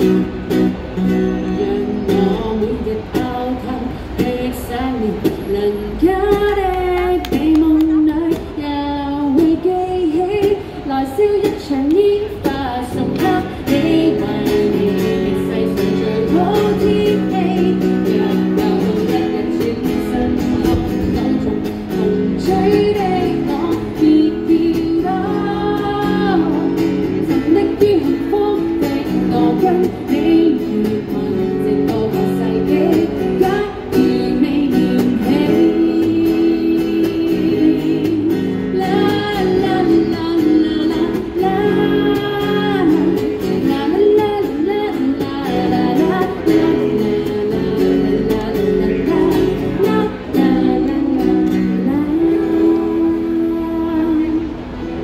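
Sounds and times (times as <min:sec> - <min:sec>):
acoustic guitar strumming: 0:00.0 - 0:55.0
woman singing into microphone: 0:00.0 - 0:55.0.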